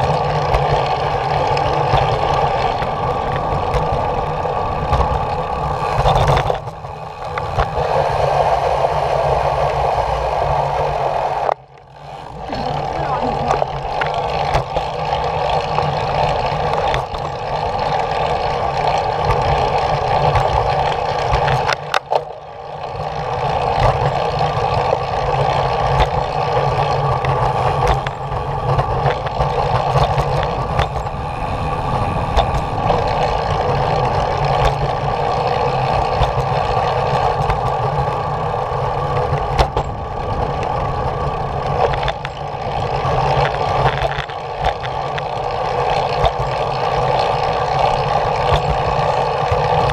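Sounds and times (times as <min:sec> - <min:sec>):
small vehicle rolling on concrete: 0:00.0 - 0:49.9.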